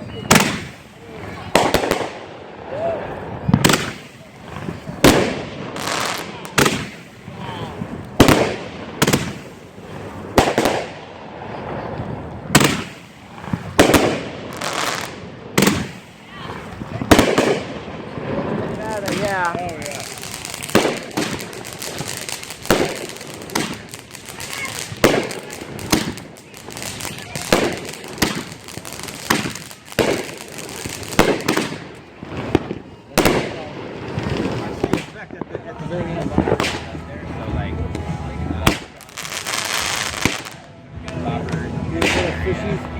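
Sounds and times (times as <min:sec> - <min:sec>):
fireworks bangs with echo: 0:00.0 - 0:42.9.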